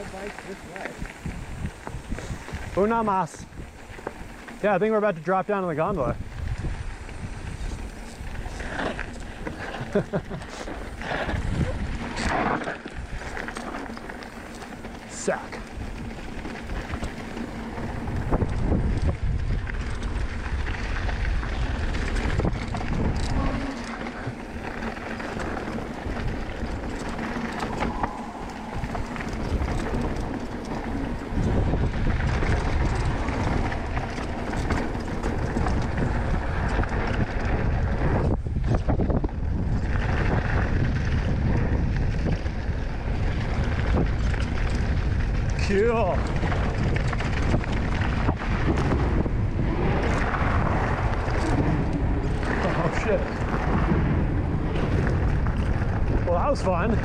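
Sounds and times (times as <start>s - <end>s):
tyres rumbling on dirt: 0.0s - 57.0s
wind buffeting microphone: 0.0s - 57.0s
bike knocks and rattles: 7.5s - 57.0s.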